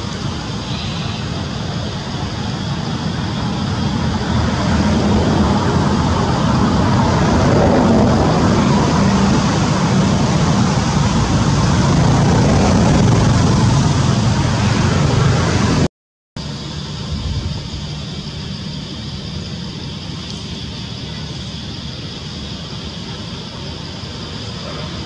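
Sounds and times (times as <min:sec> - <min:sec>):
motor traffic rumble: 0:00.0 - 0:25.0.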